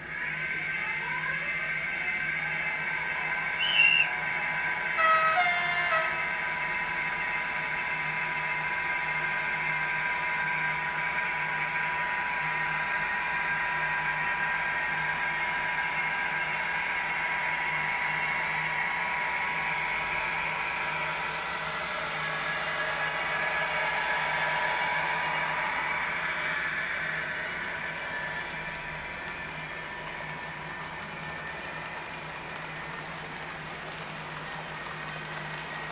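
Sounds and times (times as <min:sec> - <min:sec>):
model train whirring past: 0:00.0 - 0:35.9.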